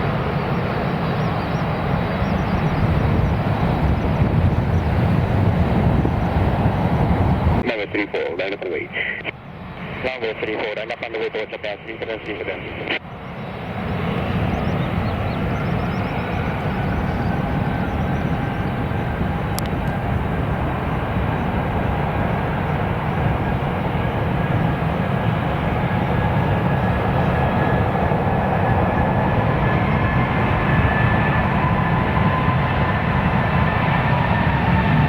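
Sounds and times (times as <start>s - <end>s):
jet airliner engines running: 0.0s - 35.0s.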